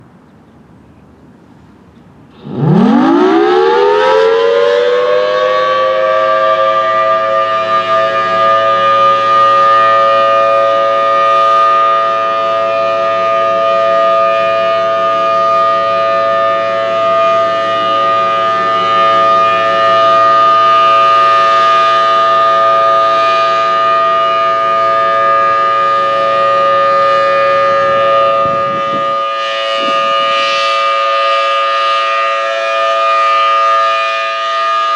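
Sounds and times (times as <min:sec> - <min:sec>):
warning siren wailing: 0:02.3 - 0:34.9.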